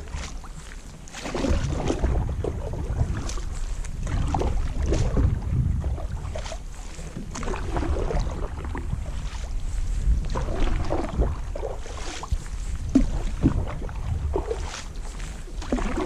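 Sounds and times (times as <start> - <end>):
paddle splashing in water: 0.0 - 16.0
steady low rumble: 0.0 - 16.0.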